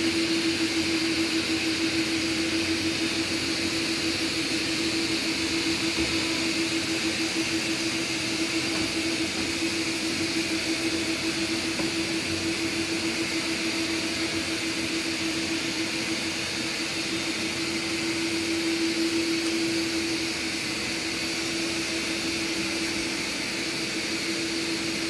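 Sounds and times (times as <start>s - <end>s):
robot vacuums whirring on carpet: 0.0s - 25.0s.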